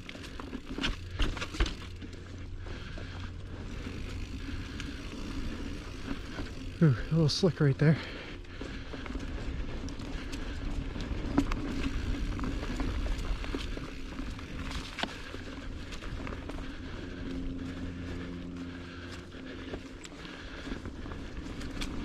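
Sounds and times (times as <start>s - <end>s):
bike clicks and rattles: 0.0s - 22.0s
bike tyres rumbling on trail: 0.0s - 22.0s
steady low hum: 0.0s - 22.0s.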